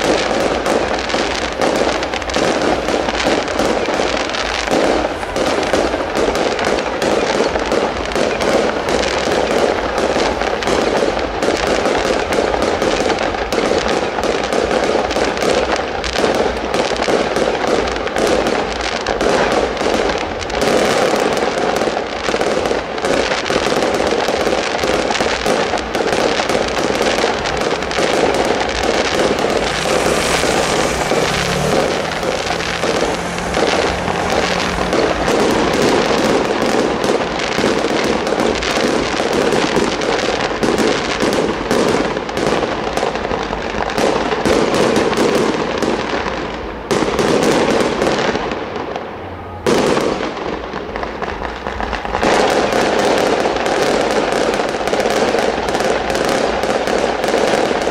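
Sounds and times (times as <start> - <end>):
fireworks bangs and crackling: 0.0 - 57.9.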